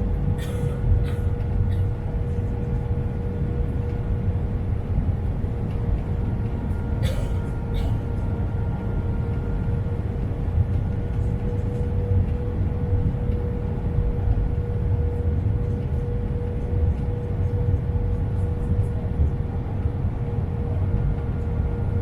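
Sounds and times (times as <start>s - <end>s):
airplane cabin engine roar: 0.0s - 22.0s.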